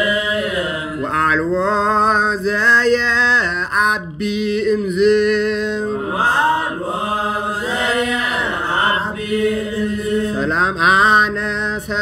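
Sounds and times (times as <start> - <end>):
man chanting a hymn: 0.0 - 12.0.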